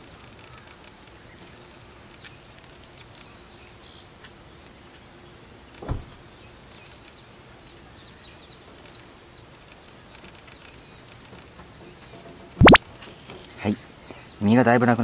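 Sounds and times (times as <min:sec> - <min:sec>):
outdoor background noise: 0:00.0 - 0:15.0
small birds chirping: 0:00.3 - 0:12.8, 0:13.4 - 0:15.0.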